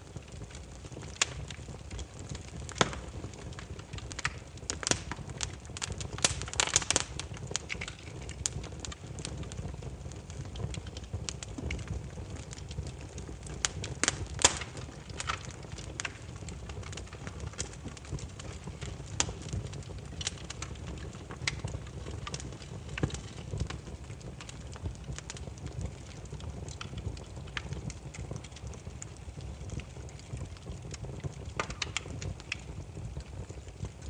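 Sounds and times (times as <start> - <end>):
firewood crackling and popping: 0.0 - 34.0
low rumble of flames: 0.0 - 34.0.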